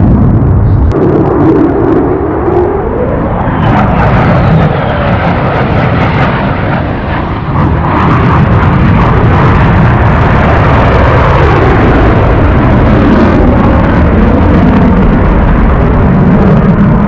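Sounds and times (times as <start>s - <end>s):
jet flying over: 0.0s - 17.0s.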